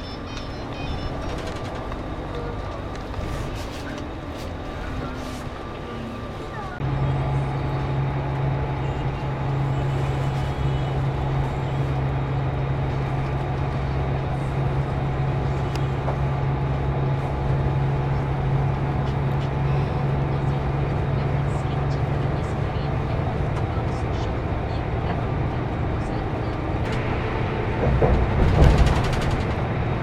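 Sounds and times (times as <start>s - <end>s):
coach engine droning: 0.0s - 30.0s.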